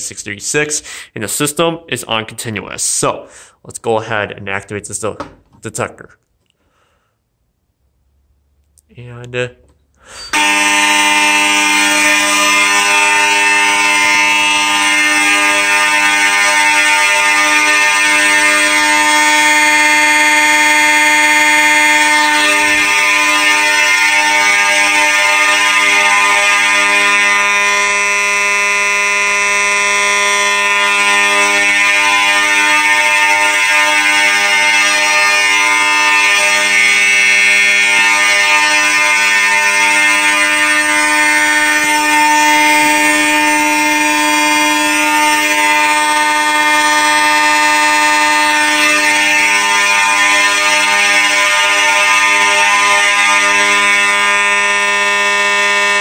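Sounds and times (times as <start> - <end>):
fire alarm horns blaring: 0.0 - 3.6, 9.7 - 56.0.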